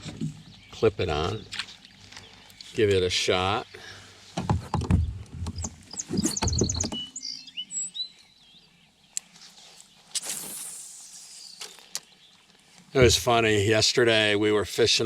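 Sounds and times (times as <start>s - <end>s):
small birds singing: 0.0s - 14.3s.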